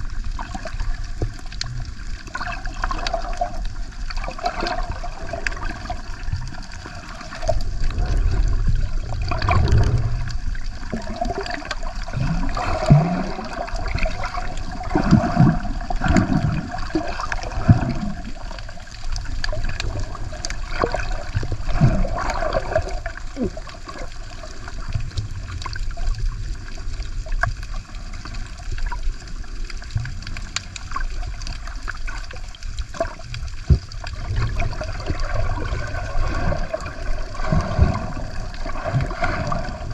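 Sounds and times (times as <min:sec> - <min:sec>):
muffled water sloshing and gurgling: 0:00.0 - 0:39.9
underwater bubbling: 0:00.0 - 0:39.9.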